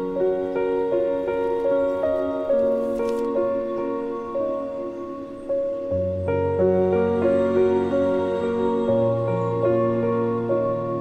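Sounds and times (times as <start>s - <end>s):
slow soft film score music: 0.0s - 11.0s.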